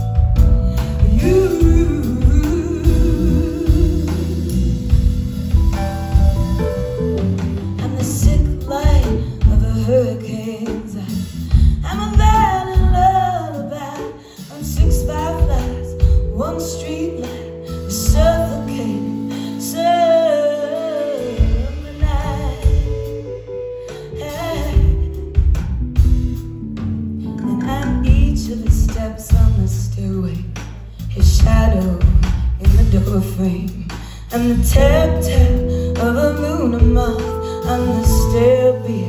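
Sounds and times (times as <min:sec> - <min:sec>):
live band playing: 0:00.0 - 0:39.0
woman singing: 0:00.4 - 0:04.9, 0:07.8 - 0:25.3, 0:27.4 - 0:39.0.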